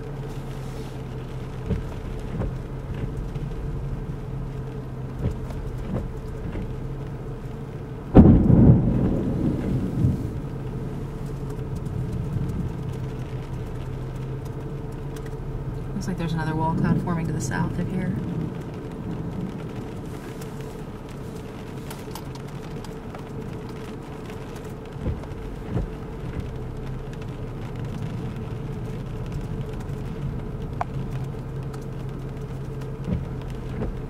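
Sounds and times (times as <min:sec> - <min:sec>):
car engine hum inside cabin: 0:00.0 - 0:34.0.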